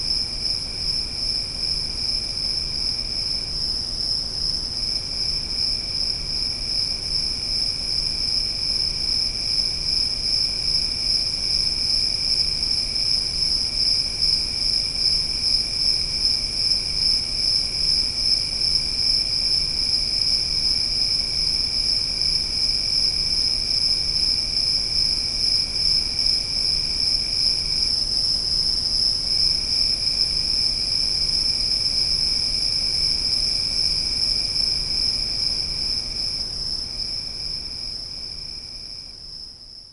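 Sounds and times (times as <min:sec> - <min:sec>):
crickets trilling: 0:00.0 - 0:39.8.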